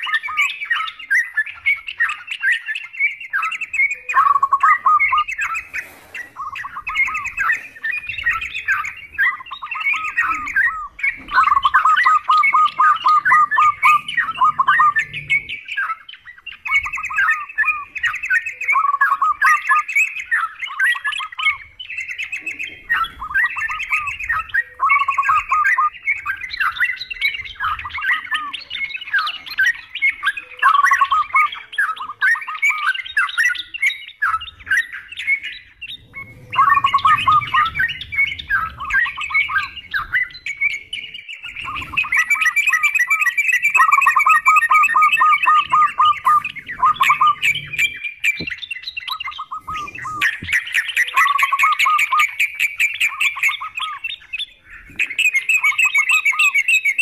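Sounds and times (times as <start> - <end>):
birds chattering: 0.0 - 57.0.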